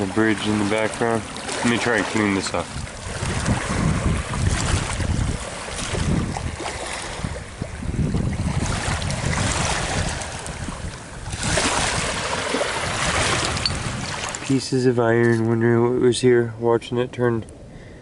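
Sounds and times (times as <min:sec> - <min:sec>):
small waves on rocky shore: 0:00.0 - 0:14.6
wind buffeting microphone: 0:00.0 - 0:15.3.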